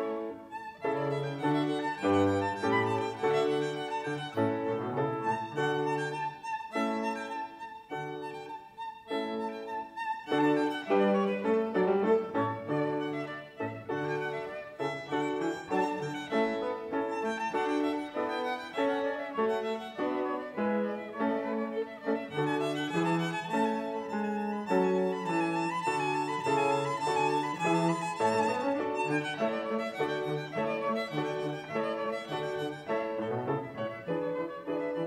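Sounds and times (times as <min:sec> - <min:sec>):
cello: 0:00.0 - 0:35.0
violin: 0:00.0 - 0:35.0.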